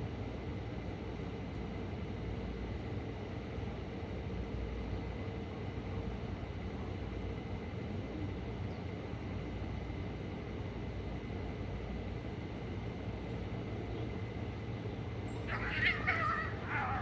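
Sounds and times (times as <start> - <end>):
faint hum: 0.0 - 17.0
low rumble and hiss: 0.0 - 17.0.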